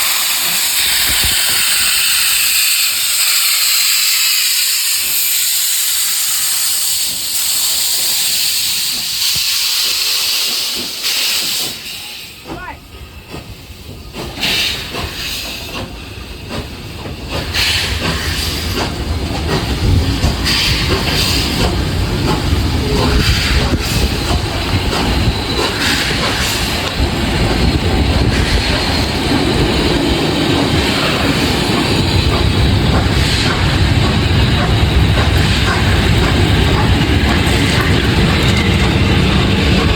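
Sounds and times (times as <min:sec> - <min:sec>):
rail noise: 0:00.0 - 0:39.9
steam locomotive hissing: 0:00.0 - 0:39.9
train rumble: 0:00.0 - 0:39.9.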